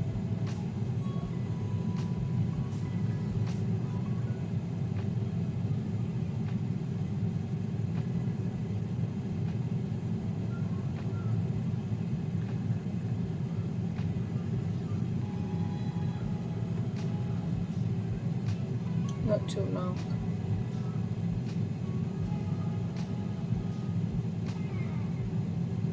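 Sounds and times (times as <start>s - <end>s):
air fryer fan hum: 0.0s - 25.9s.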